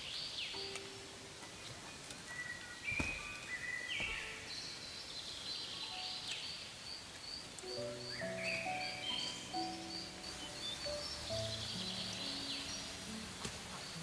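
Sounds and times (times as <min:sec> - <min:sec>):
soft background music: 0:00.0 - 0:14.0
bird chirping: 0:01.4 - 0:14.0.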